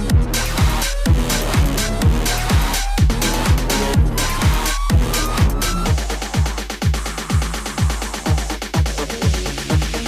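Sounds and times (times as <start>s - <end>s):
electronic dance music: 0.0s - 10.0s
kick drum: 0.0s - 10.0s
ticking hi-hats: 0.0s - 10.0s.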